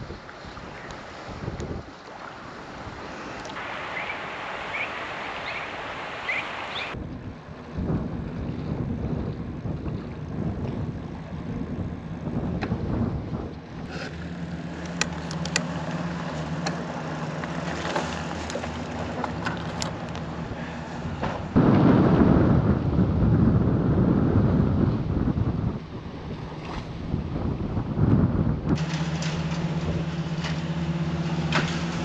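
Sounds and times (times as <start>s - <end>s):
wind buffeting microphone: 0.0s - 16.9s, 17.5s - 32.0s.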